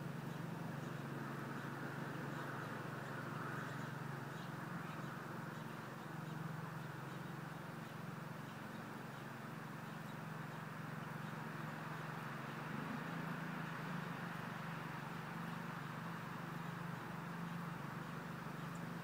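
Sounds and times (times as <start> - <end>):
faint background hiss: 0.0 - 19.0
low motor hum: 0.0 - 19.0.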